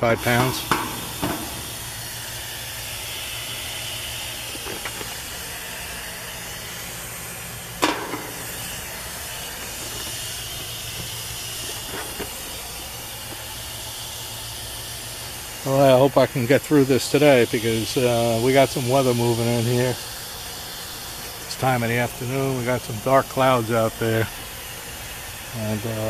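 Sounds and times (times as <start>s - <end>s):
gas hissing from a hose: 0.0s - 26.0s.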